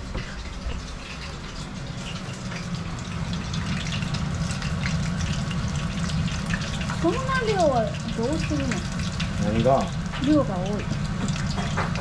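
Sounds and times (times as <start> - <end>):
fritters deep-frying in oil: 0.0 - 12.0.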